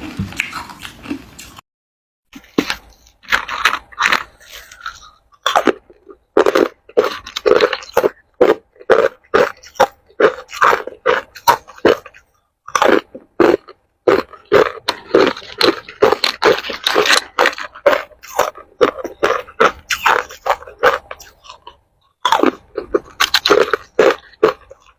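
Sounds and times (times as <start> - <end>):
ice being chewed: 2.4 - 24.9.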